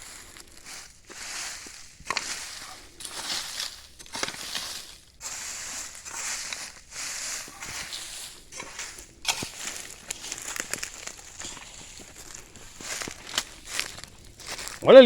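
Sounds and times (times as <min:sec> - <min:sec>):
hoe scraping leaves and soil: 0:00.0 - 0:15.0.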